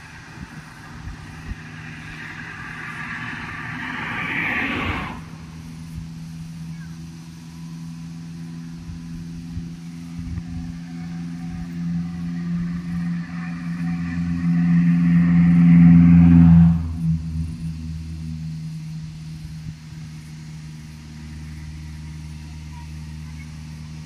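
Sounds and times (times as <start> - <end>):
steady low hum: 0.0 - 24.0
van passing on highway: 0.0 - 24.0.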